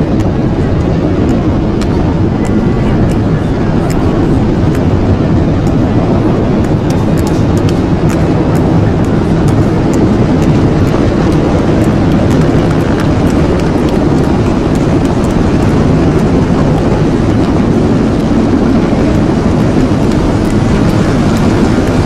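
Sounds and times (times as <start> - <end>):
military aircraft engine: 0.0 - 22.0.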